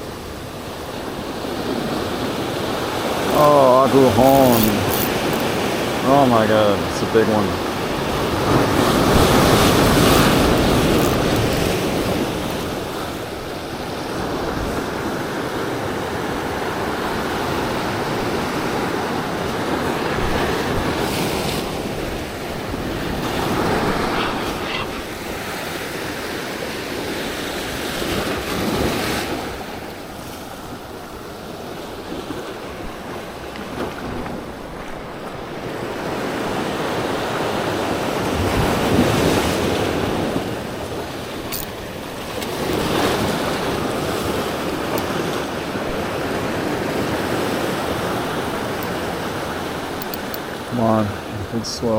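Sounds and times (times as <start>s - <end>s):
surf breaking on rocks: 0.0s - 51.9s.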